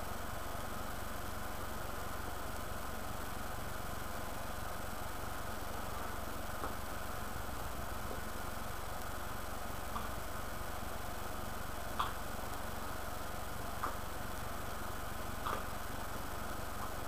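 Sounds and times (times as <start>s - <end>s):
steady hum and hiss: 0.0s - 17.0s.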